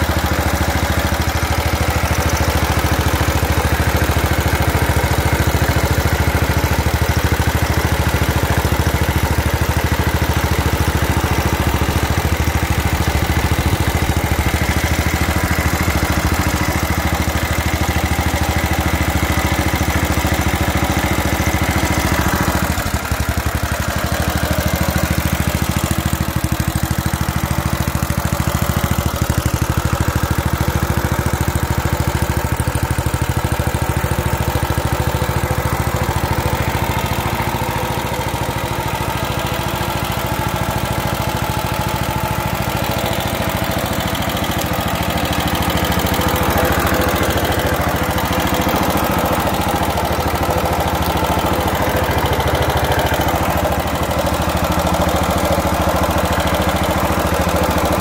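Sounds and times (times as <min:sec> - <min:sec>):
single-cylinder engine idling: 0:00.0 - 0:58.0.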